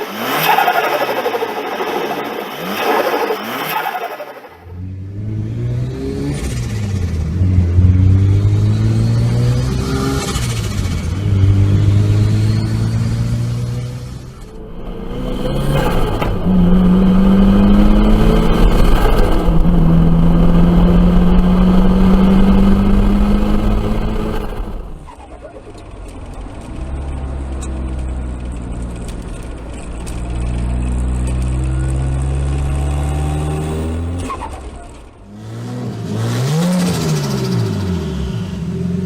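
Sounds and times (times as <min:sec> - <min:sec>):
car engines accelerating hard: 0:00.0 - 0:39.0.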